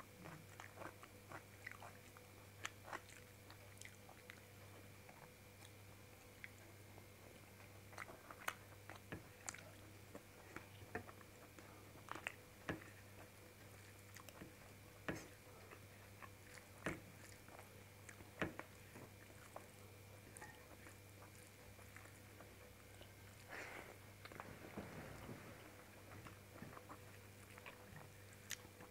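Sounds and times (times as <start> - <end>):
faint steady hum: 0.0 - 28.9
person chewing food: 0.0 - 28.9.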